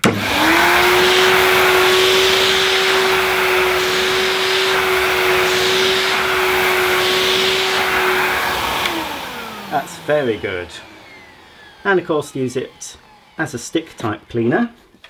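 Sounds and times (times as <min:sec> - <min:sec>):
vacuum cleaner motor whine: 0:00.0 - 0:14.7.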